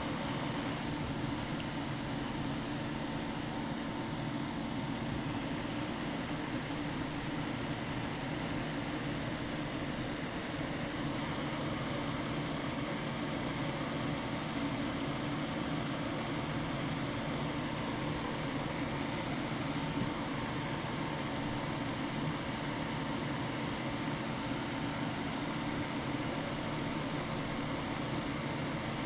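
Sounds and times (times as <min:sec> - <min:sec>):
machine hum and hiss: 0:00.0 - 0:29.0.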